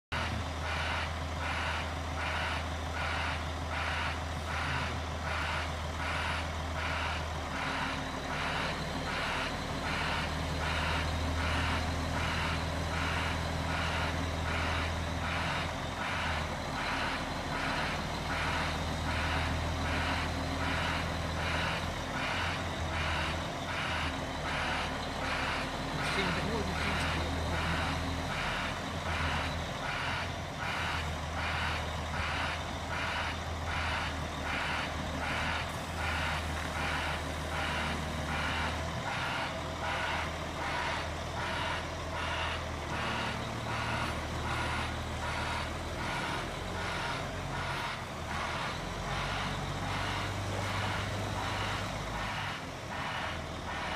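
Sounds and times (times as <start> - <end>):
diesel engine drone: 0.0 - 53.9
reversing alarm beeping: 0.1 - 53.9.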